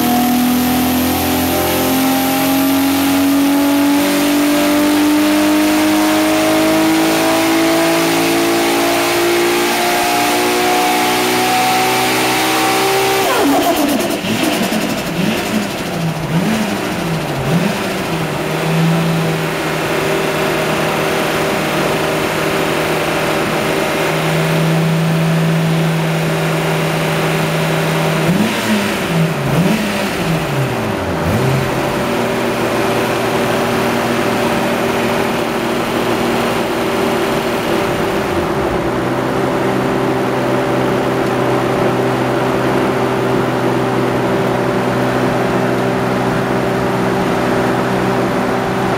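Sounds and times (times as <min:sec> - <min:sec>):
turbo car engine revving: 0:00.0 - 0:48.9.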